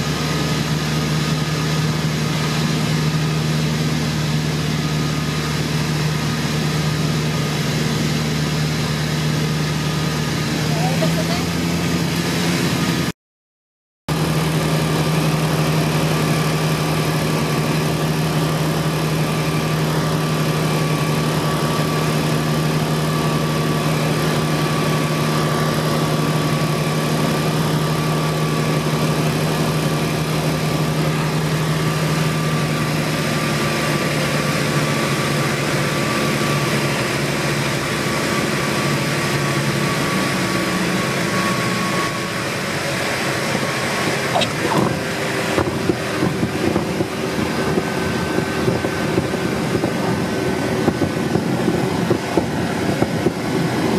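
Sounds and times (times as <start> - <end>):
propeller aircraft engine droning: 0.0 - 13.1, 14.1 - 53.9.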